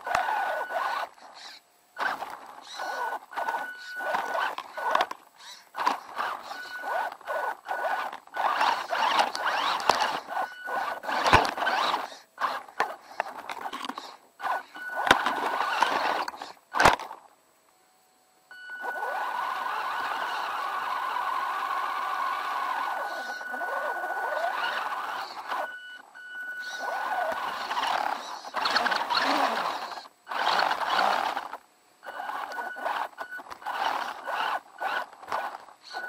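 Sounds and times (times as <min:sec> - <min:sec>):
electric motor whine: 0:00.0 - 0:17.2, 0:18.0 - 0:36.0
rattling and scraping over dirt: 0:00.0 - 0:17.3, 0:18.7 - 0:25.8, 0:26.4 - 0:36.0.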